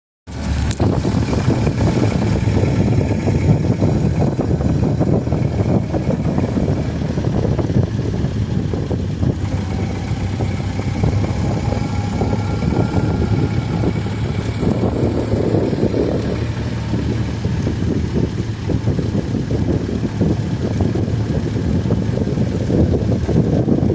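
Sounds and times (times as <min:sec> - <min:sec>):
truck engine running: 0:00.3 - 0:23.9.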